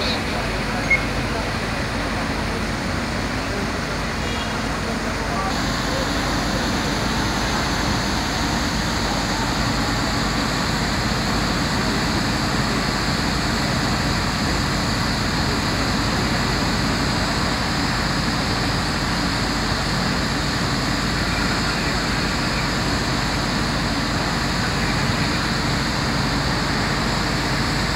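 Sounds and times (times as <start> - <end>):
diesel engines droning: 0.0 - 27.9
street traffic noise: 0.0 - 27.9.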